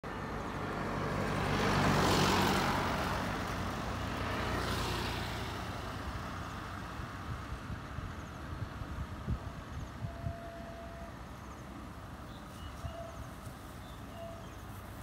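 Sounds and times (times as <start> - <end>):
distant traffic: 0.0 - 15.0
vehicles passing on asphalt: 0.0 - 15.0.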